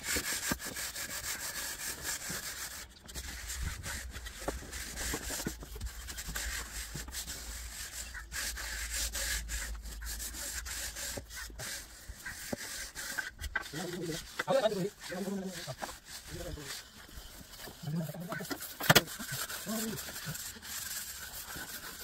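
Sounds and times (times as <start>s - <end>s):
screed scraping wet cement: 0.0s - 22.0s.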